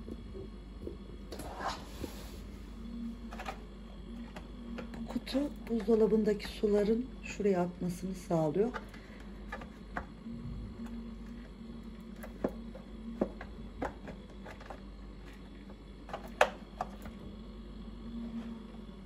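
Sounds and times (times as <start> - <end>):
refrigerator compressor humming: 0.0 - 19.0.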